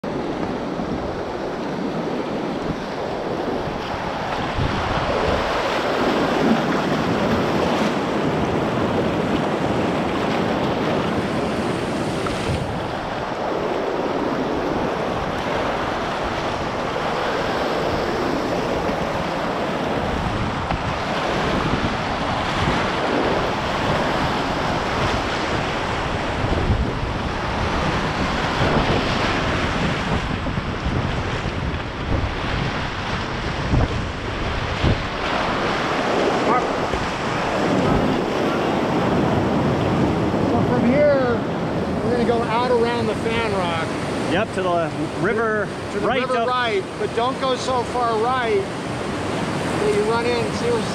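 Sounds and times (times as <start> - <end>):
paddle blades splashing: 0.0 - 50.9
whitewater rushing and splashing: 0.0 - 50.9
wind buffeting microphone: 0.0 - 50.9.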